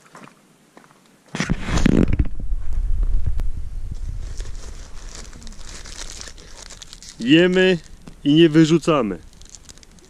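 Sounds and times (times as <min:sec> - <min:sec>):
faint rustling and crinkling: 0:00.8 - 0:10.0
low rumble on microphone: 0:01.5 - 0:10.0.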